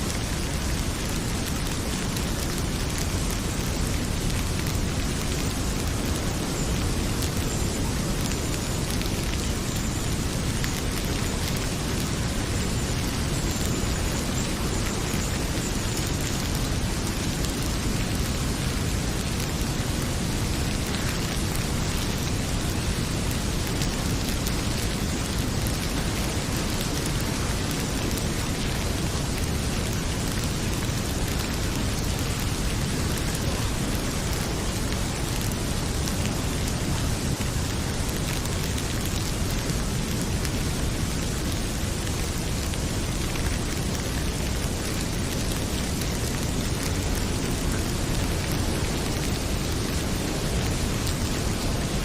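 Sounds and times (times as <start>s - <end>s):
heavy rain pouring: 0.0s - 52.0s
wood fire crackling: 0.0s - 52.0s.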